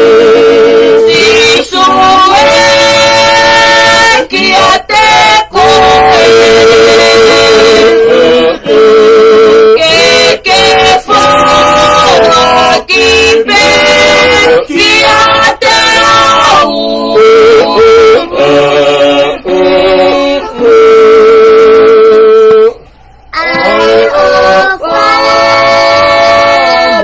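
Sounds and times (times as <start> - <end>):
family singing a hymn: 0.0 - 27.0.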